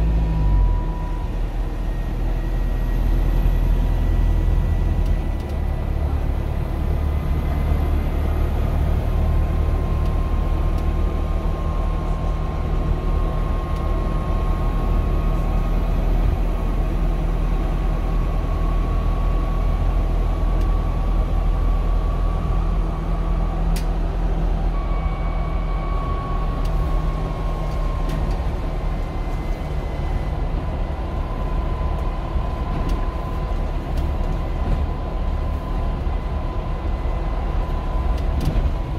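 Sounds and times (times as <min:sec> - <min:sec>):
bus engine rumble: 0:00.0 - 0:38.9.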